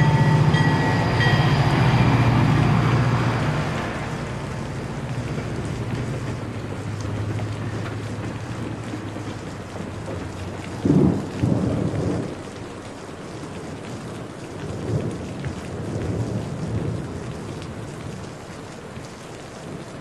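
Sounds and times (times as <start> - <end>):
thunder rumbling: 0.0 - 12.8, 14.1 - 18.3
steady rain: 0.0 - 20.0.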